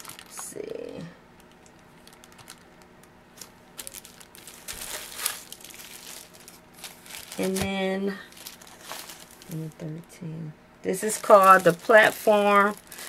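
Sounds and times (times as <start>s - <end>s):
plastic bags crinkling: 0.0s - 0.8s, 1.4s - 9.9s, 11.0s - 13.0s.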